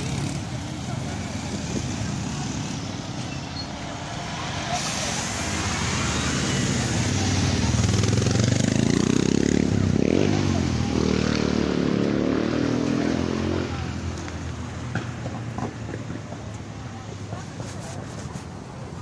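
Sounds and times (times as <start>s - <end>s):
vehicle engine accelerating: 0.0s - 15.3s
city traffic noise: 0.0s - 19.0s.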